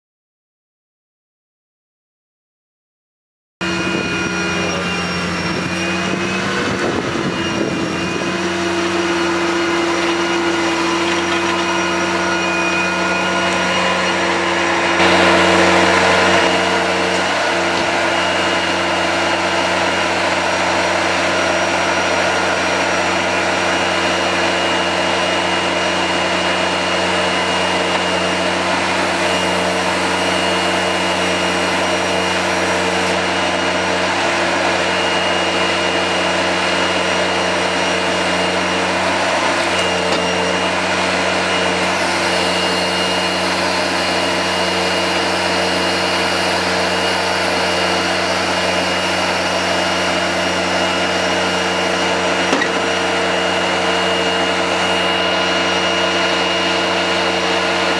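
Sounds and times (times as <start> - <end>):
sweeper engine humming and whining: 3.6 - 57.9.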